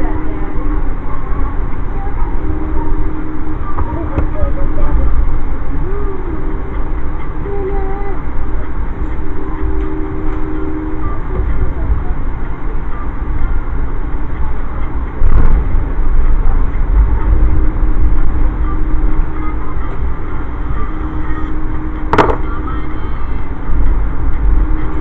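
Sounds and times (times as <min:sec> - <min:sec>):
train rumble from inside: 0:00.0 - 0:25.0.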